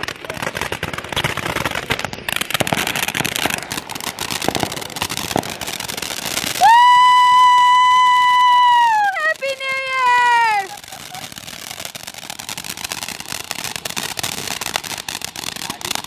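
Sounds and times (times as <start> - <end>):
firework crackling and popping: 0.0 - 16.0.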